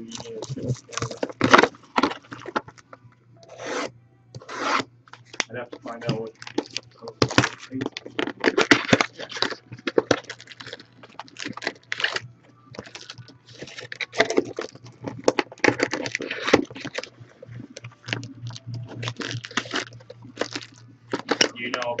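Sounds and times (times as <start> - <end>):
plastic wrap crinkling and tearing: 0.0 - 2.8, 3.5 - 22.0
steady low hum: 0.0 - 22.0.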